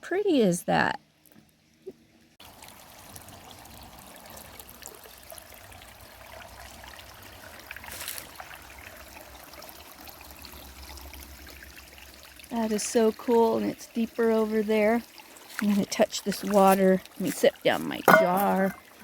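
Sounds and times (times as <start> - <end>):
creek water trickling: 1.0 - 19.0.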